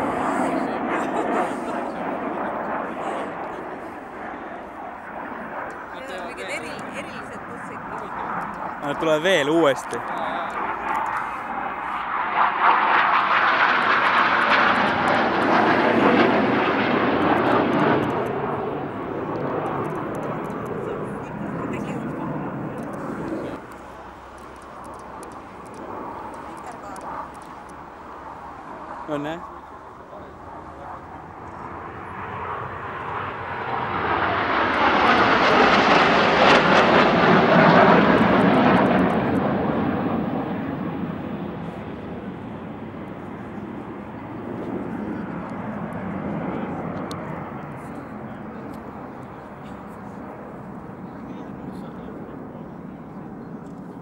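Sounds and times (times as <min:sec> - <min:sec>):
jet roaring past low: 0:00.0 - 0:54.0.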